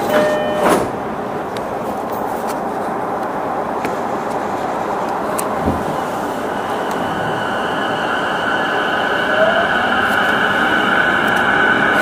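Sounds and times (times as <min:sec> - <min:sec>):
electric train interior noise: 0:00.0 - 0:12.0.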